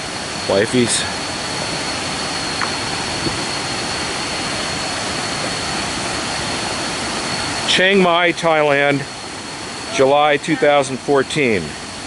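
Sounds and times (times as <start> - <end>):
high-pitched whine: 0.0 - 12.0
waterfall rushing: 0.0 - 12.0.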